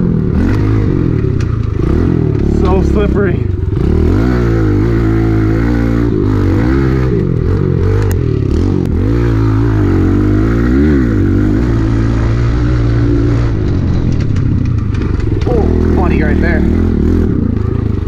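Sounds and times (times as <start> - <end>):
small motorbike engine revving: 0.0 - 18.0.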